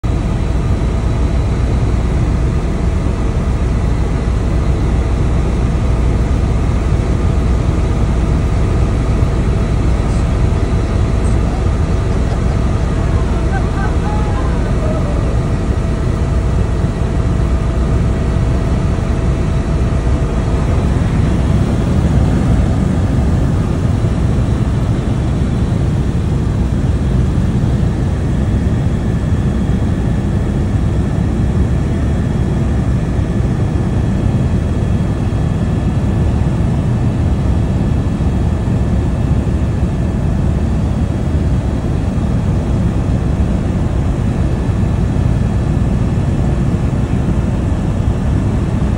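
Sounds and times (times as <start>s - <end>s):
helicopter engine and rotor rumble: 0.0s - 48.9s.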